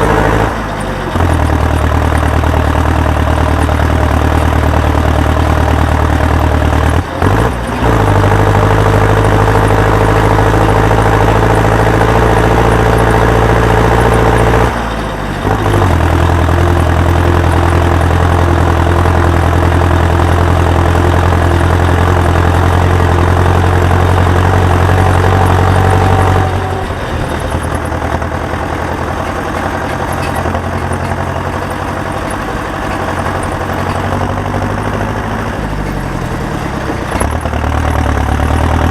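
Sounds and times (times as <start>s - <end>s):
heavy farm machinery engine running: 0.0s - 38.9s.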